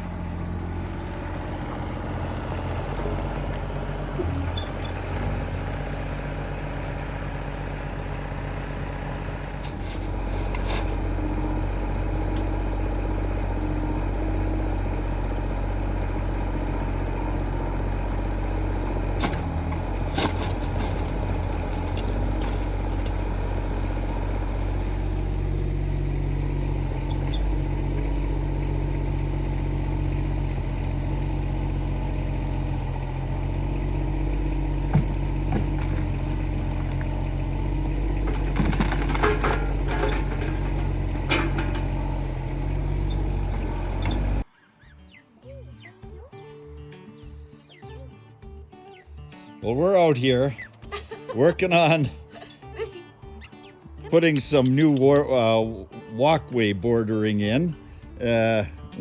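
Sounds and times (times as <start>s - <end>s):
engine running: 0.0s - 45.2s, 45.8s - 59.0s.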